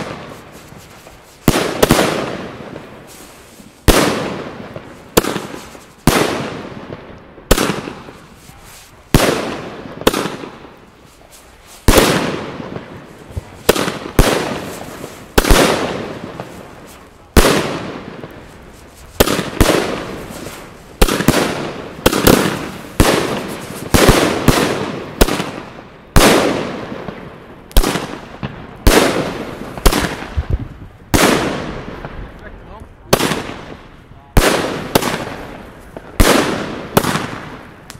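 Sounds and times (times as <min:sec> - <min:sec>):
fireworks bangs: 0:00.0 - 0:37.9.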